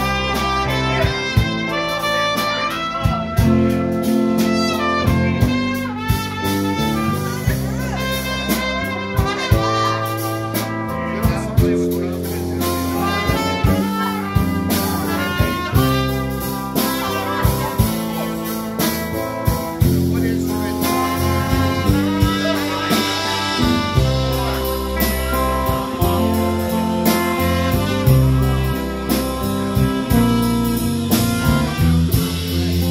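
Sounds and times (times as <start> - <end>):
drum kit beat: 0.0 - 32.9
electric bass: 0.0 - 32.9
electric guitar: 0.0 - 32.9
trumpet lead: 0.0 - 32.9.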